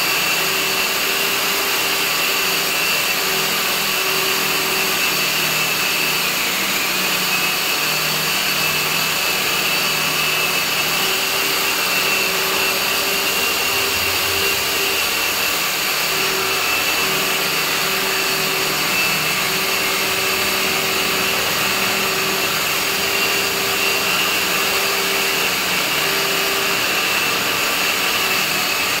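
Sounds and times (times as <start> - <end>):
core drill grinding concrete: 0.0 - 29.0.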